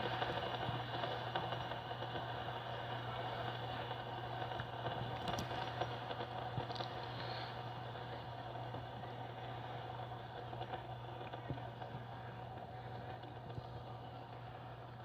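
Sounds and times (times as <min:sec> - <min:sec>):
fidget spinner whirring: 0:00.0 - 0:15.0.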